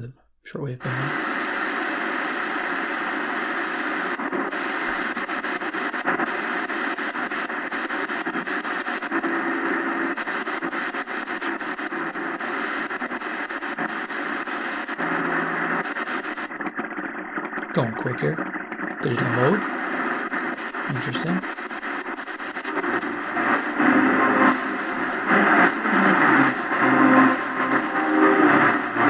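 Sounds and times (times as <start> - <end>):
shortwave radio static and hiss: 0.0 - 29.0.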